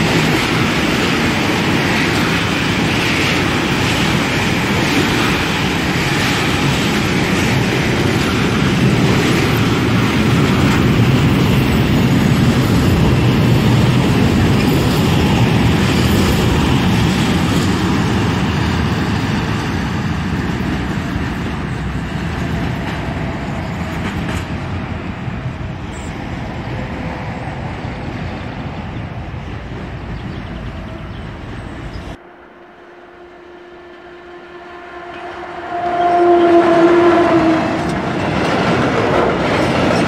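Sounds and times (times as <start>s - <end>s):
freight train wheels on rails: 0.0s - 32.8s, 33.8s - 40.0s.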